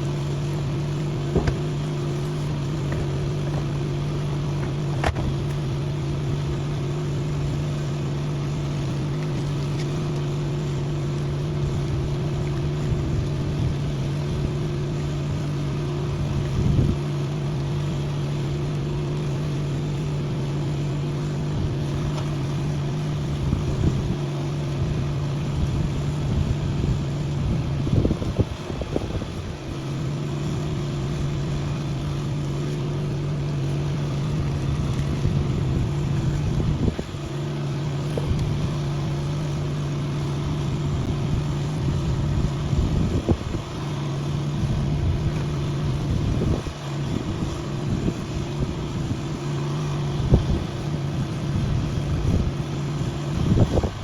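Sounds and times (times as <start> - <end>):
motor humming: 0.0 - 54.0.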